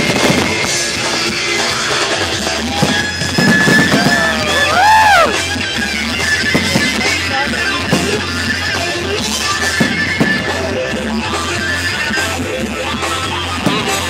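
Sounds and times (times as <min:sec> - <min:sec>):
rock music with guitar: 0:00.0 - 0:14.0.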